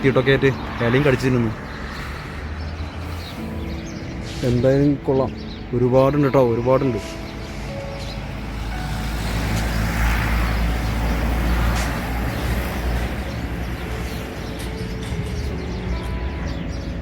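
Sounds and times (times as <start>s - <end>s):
road vehicle passing by: 0.0s - 17.0s.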